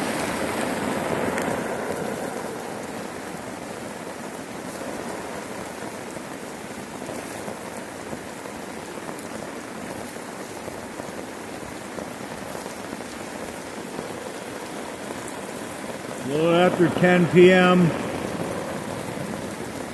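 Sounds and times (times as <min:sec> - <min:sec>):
heavy rain on a tarp: 0:00.0 - 0:19.9.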